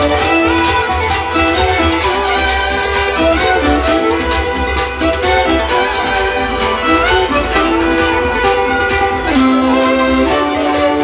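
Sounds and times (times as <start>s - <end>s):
band beat and bass: 0.0s - 11.0s
violin melody: 0.0s - 11.0s.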